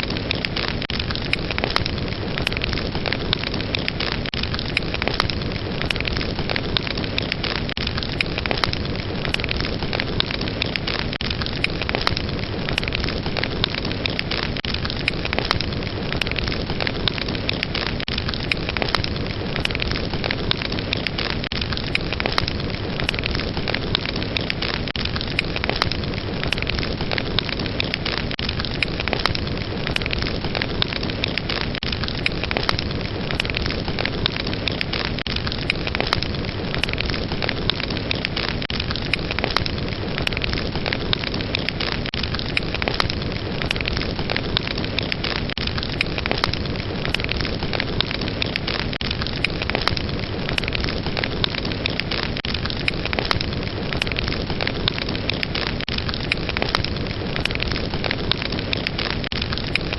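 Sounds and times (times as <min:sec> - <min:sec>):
fire crackling and hissing: 0:00.0 - 0:59.9.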